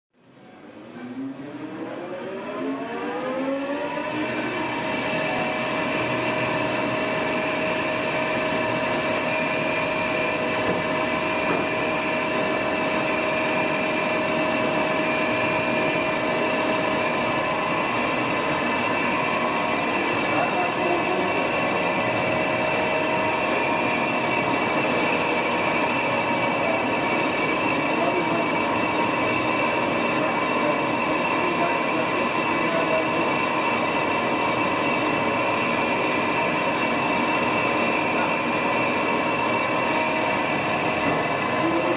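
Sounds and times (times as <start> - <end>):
lathe whine: 1.4 - 41.9.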